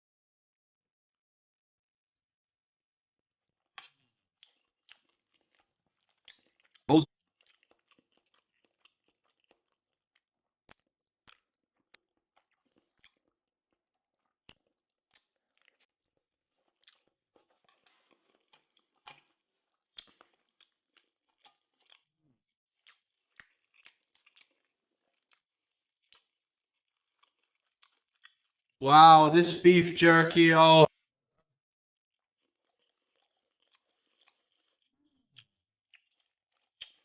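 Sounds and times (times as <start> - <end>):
person chewing: 3.6 - 22.2, 22.8 - 30.6, 32.4 - 37.0.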